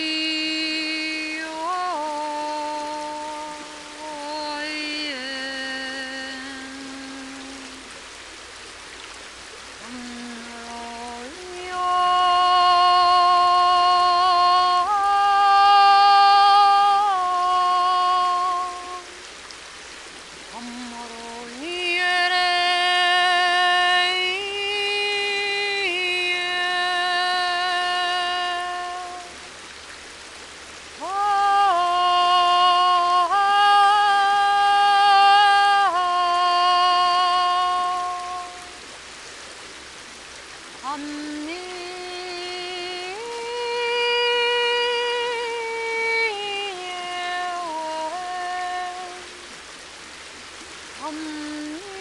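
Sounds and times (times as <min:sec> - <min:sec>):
woman singing wordless notes: 0:00.0 - 0:08.1, 0:09.7 - 0:19.4, 0:20.3 - 0:29.6, 0:30.8 - 0:39.1, 0:40.7 - 0:49.8, 0:50.8 - 0:52.0
faint river water flowing: 0:00.0 - 0:52.0.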